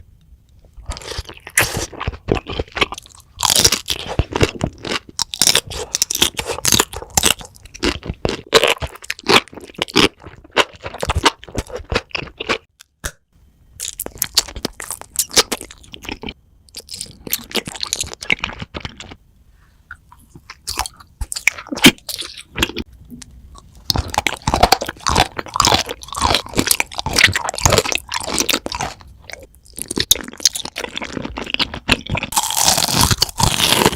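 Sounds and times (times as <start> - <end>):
crunching and chewing crisp food: 0.6 - 13.2, 13.8 - 19.2, 19.9 - 33.9.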